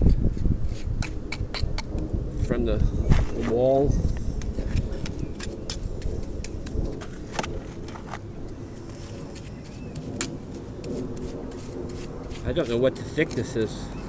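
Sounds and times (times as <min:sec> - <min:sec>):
mortar clicks and scrapes: 0:00.0 - 0:14.0
steady low rumble: 0:00.0 - 0:14.0.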